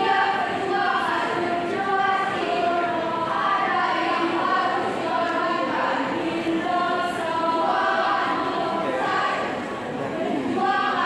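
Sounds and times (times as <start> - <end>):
choir singing slow melody: 0.0 - 11.0.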